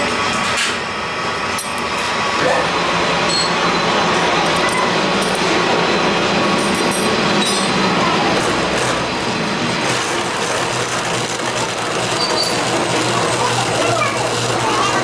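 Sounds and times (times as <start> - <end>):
metal cutting noise: 0.0 - 15.0
milling machine whirring: 0.0 - 15.0.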